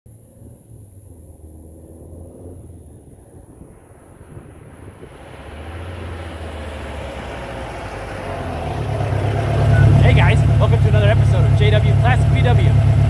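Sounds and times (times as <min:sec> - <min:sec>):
car engine rumble approaching: 0:00.1 - 0:13.0.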